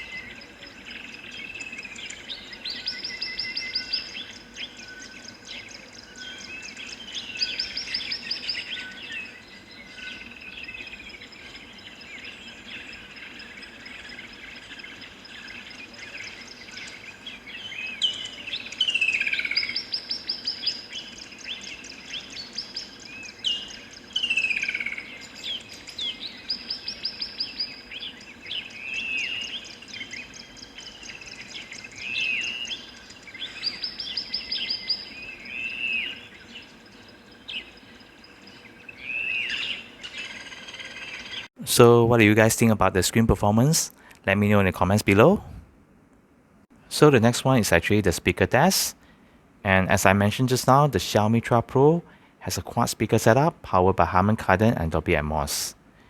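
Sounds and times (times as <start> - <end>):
birds singing trills and whistles: 0.0 - 45.4
steady outdoor hiss: 0.0 - 56.0.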